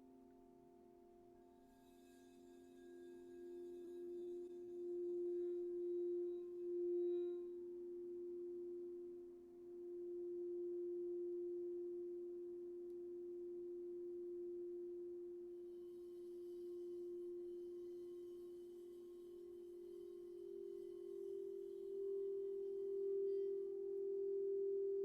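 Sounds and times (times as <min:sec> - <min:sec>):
singing bowl tone: 0:00.0 - 0:25.0
higher singing bowl tone: 0:01.7 - 0:25.0.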